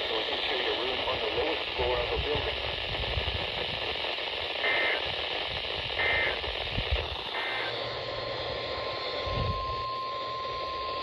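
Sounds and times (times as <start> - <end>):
radio static: 0.0 - 11.0.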